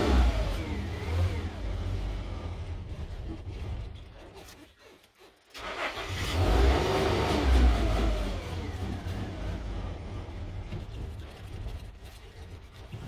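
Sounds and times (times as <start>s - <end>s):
car engine stopping and restarting: 0.0s - 4.3s, 5.5s - 12.2s.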